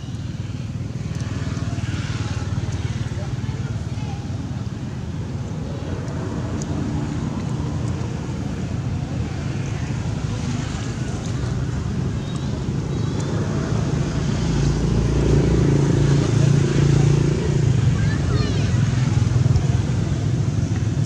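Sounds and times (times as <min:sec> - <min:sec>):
outdoor noise: 0:00.0 - 0:21.0.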